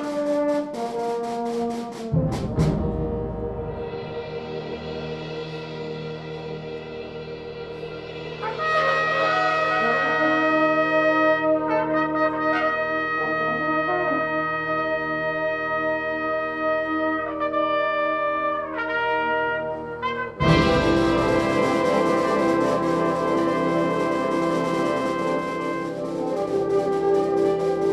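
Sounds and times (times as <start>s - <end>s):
concert band playing brass chords: 0.0s - 27.9s.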